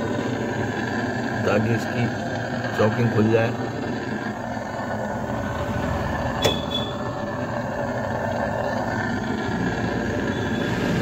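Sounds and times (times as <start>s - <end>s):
hot-air blower running: 0.0s - 11.0s.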